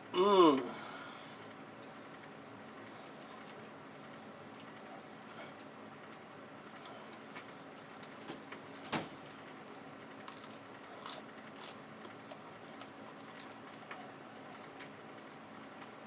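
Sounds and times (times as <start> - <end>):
steady low hum: 0.0 - 16.0
quiet chewing: 1.3 - 16.0.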